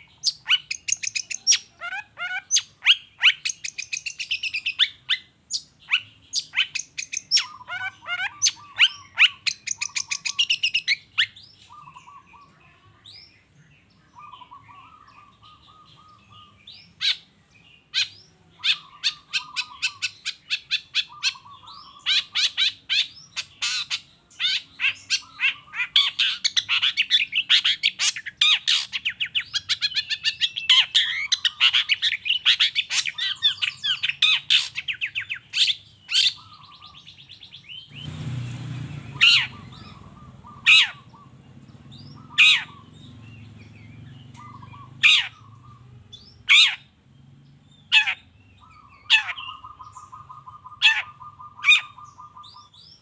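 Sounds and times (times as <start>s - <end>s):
bird song with clicks and chatter: 0.0s - 53.0s.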